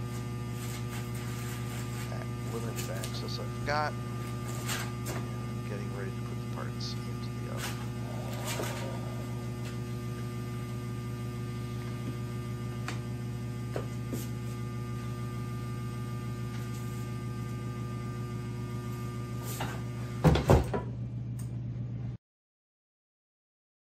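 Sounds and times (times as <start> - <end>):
electrical mains hum: 0.0 - 22.2.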